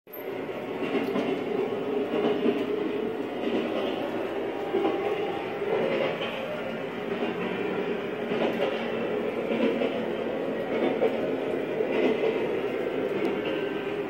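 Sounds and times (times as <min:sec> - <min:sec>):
model train wheels rumbling on rails: 0:00.1 - 0:14.0.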